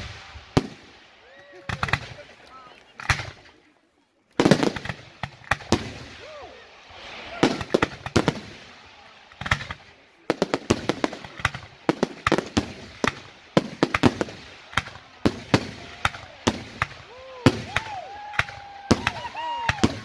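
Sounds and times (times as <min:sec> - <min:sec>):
fireworks bangs: 0:00.0 - 0:03.6, 0:04.4 - 0:20.0
voices: 0:01.1 - 0:05.2, 0:06.0 - 0:20.0.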